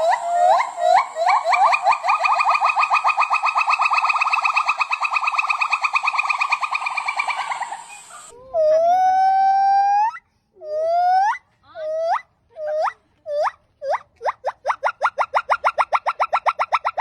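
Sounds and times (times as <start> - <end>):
monkey whoop calls: 0.0 - 17.0.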